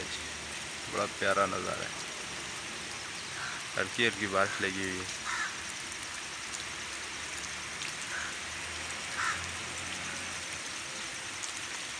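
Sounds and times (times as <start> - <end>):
light rain falling: 0.0 - 11.9.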